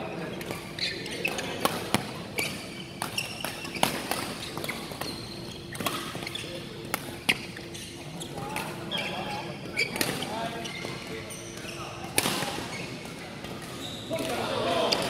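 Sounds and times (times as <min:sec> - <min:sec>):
shoes squeaking on court floor: 0:00.0 - 0:15.0.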